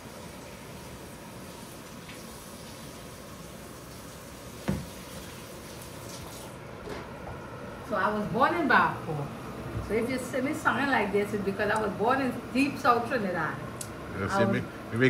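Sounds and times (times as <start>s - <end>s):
pot boiling with bubbling hiss: 0.0s - 15.0s.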